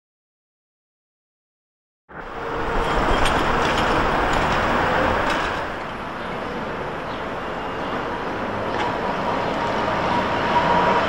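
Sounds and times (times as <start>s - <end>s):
tyre and road noise: 2.1s - 11.0s.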